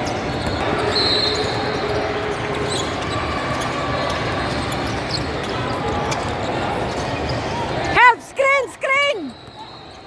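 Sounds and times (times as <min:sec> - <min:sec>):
sneaker squeaks: 0:00.0 - 0:07.9, 0:09.2 - 0:10.0
crowd noise: 0:00.0 - 0:10.0.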